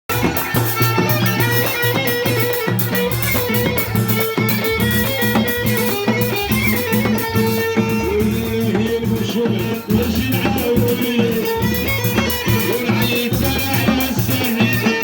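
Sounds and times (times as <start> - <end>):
fast drum beat: 0.1 - 15.0
plucked strings: 0.1 - 15.0.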